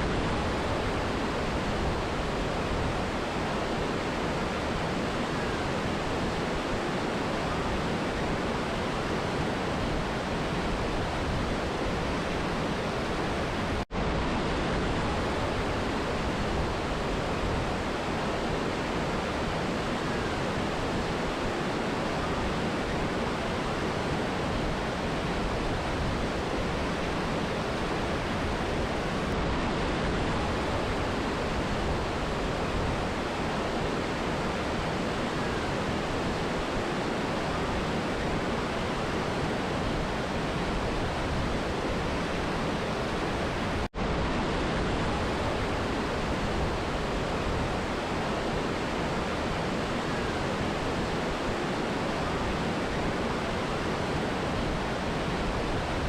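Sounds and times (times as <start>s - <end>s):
river and waterfall rushing: 0.0s - 56.0s.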